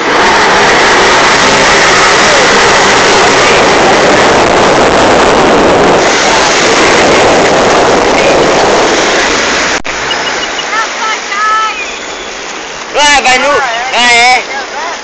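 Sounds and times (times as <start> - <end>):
jet ski running at speed: 0.0 - 15.0.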